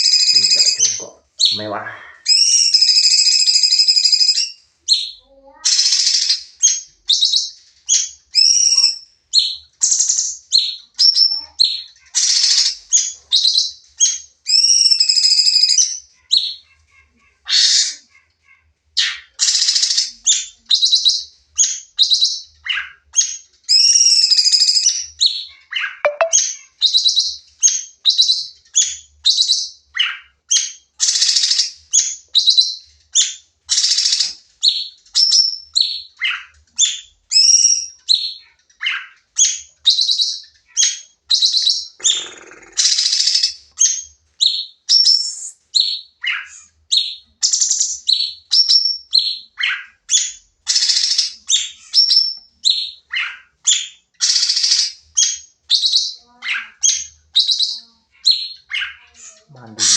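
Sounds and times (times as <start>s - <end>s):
songbird chirping rapidly: 0.0s - 18.2s, 19.0s - 31.7s, 33.7s - 59.9s.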